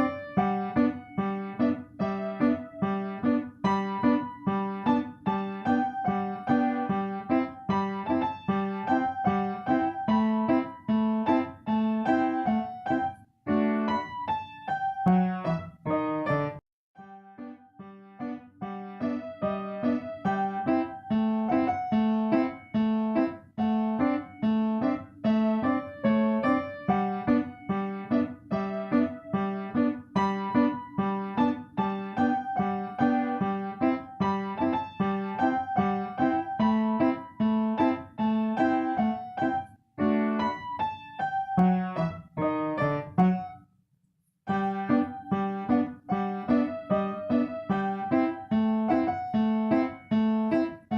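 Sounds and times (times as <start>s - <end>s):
piano melody with repeating bass: 0.0s - 43.6s, 44.5s - 50.9s.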